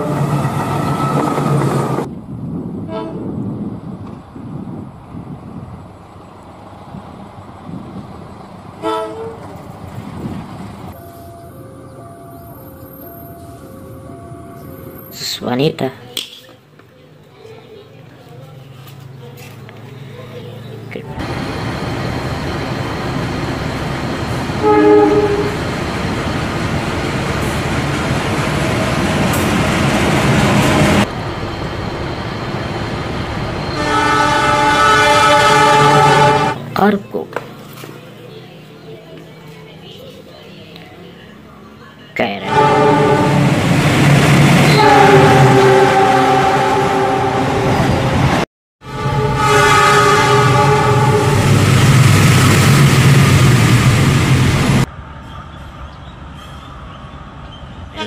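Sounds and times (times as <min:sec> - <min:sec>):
train rumbling through station: 0:00.0 - 0:58.0.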